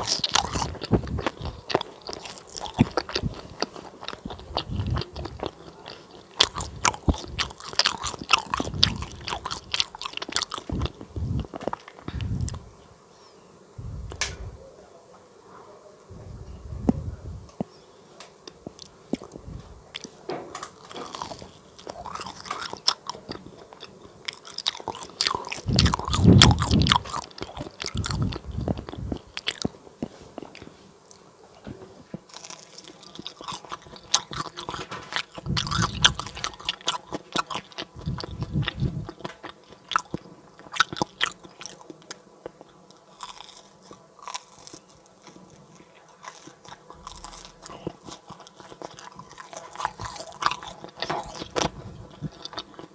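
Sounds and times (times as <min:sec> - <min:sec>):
crunchy chewing of fried cake: 0:00.0 - 0:12.7, 0:17.5 - 0:52.9.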